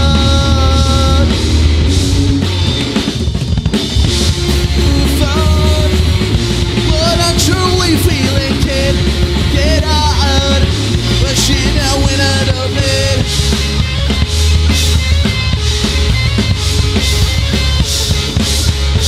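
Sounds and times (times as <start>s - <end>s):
punk rock band playing live: 0.0s - 19.0s.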